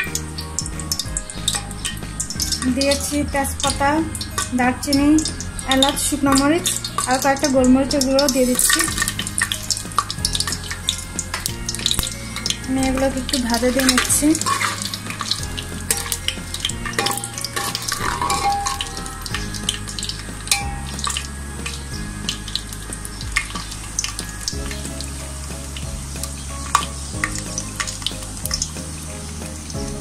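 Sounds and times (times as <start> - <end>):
sharp crackles and pops: 0.0 - 30.0
spices sizzling in hot oil: 0.0 - 30.0.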